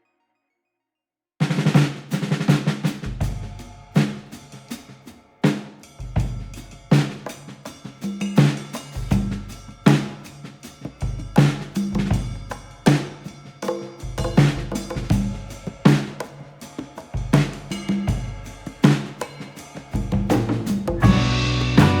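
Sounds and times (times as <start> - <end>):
music with drum kit beat: 1.4 - 22.0.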